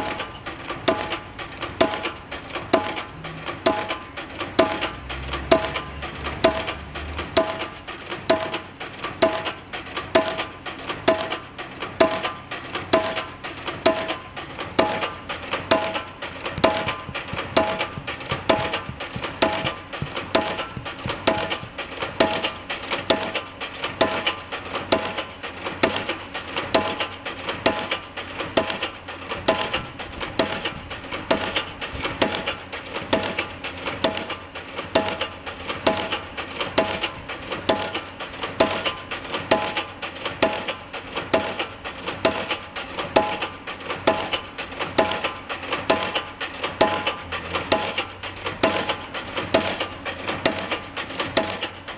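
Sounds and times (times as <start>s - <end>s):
pile driver metallic clangs: 0.0s - 51.9s.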